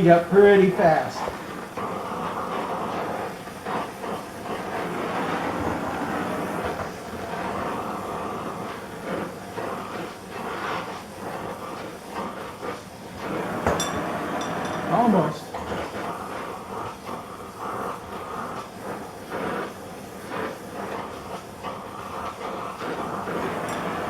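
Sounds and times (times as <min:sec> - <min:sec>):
gas torch flame hissing: 0:00.0 - 0:24.0.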